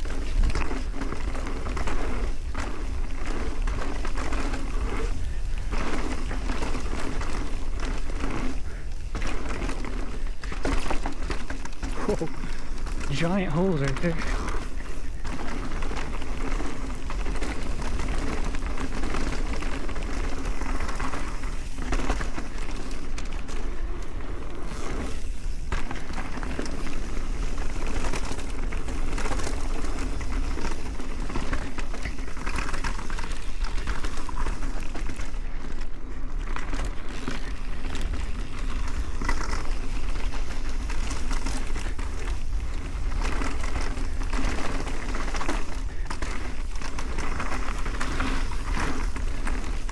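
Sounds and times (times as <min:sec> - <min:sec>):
bike tyres crunching on dirt: 0:00.0 - 0:49.9.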